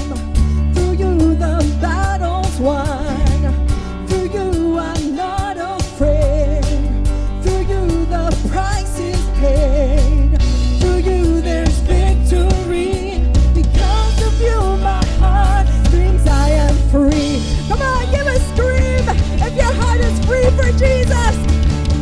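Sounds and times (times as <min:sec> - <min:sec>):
woman singing with vibrato: 0:00.0 - 0:21.5
acoustic guitar: 0:00.0 - 0:22.0
heavy bass: 0:00.0 - 0:22.0
steady drum beat: 0:00.1 - 0:22.0.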